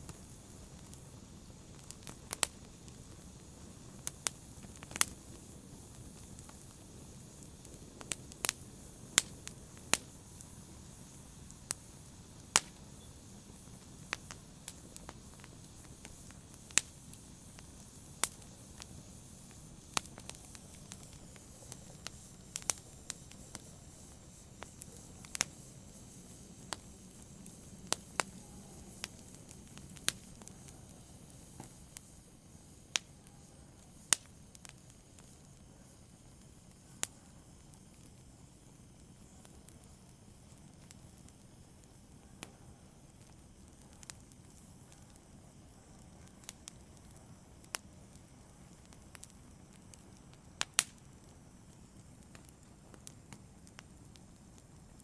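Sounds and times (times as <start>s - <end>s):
hiss of burning: 0.0s - 55.0s
wood fire crackling: 0.0s - 55.0s.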